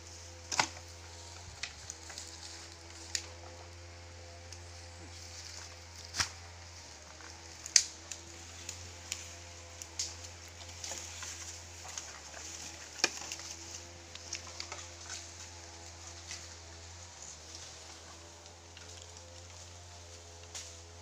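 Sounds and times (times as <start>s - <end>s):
footsteps through undergrowth: 0.0s - 21.0s
twigs snapping: 0.4s - 3.7s, 4.4s - 21.0s.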